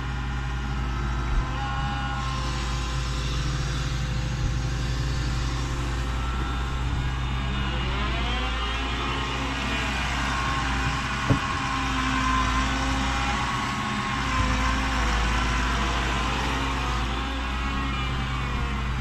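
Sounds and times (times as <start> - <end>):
excavator diesel engine and hydraulics: 0.0 - 19.0.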